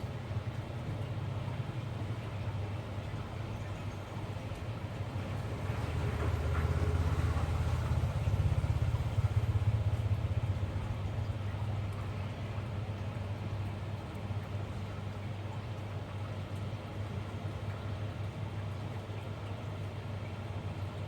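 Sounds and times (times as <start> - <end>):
low motor rumble: 0.0 - 21.0.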